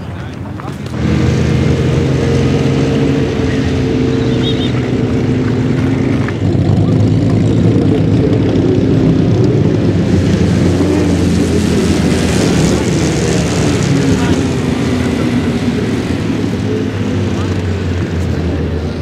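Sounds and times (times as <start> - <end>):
car engine running: 0.3 - 19.0.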